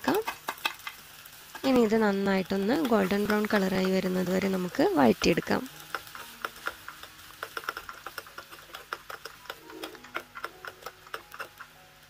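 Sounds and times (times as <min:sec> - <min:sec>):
onion frying crackles: 0:00.0 - 0:12.0
steel spoon stirring: 0:01.5 - 0:12.0.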